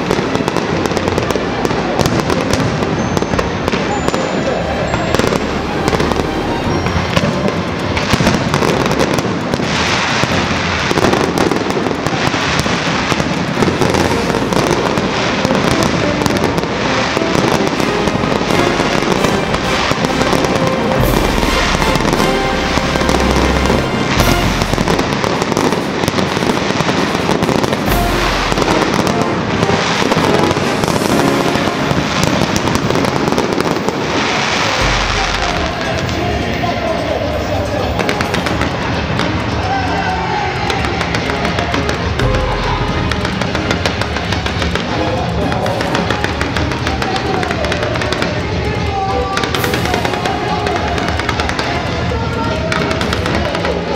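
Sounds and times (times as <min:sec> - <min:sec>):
deep fireworks booms: 0:00.0 - 0:39.8, 0:40.5 - 0:53.9
fireworks crackling and popping: 0:00.0 - 0:53.9.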